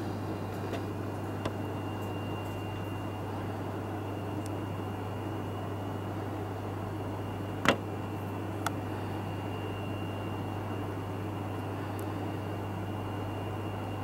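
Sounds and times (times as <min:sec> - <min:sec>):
faint high whine: 0:00.0 - 0:14.0.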